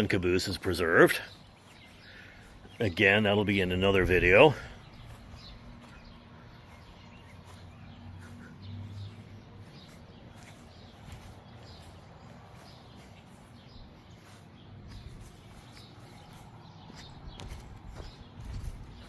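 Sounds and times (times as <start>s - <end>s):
bird chirps: 1.0s - 3.7s, 4.4s - 19.0s.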